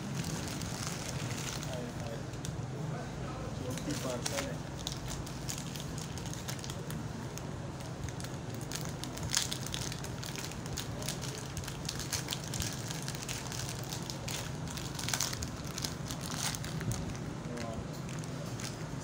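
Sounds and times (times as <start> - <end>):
plastic packaging crinkling: 0.0 - 2.4, 3.6 - 19.0
steady low hum: 0.0 - 19.0.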